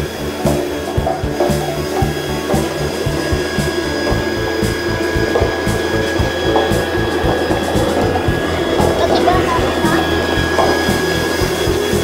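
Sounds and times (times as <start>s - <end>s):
background music with a beat: 0.0s - 12.0s
electric blower whining: 0.0s - 12.0s.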